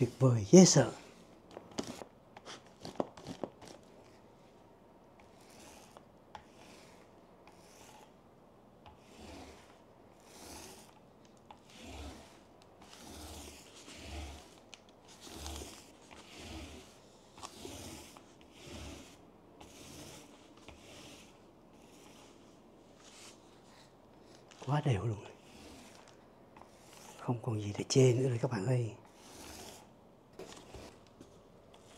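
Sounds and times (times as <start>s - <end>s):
paint roller strokes on tabletop: 0.0s - 8.2s, 8.8s - 31.9s.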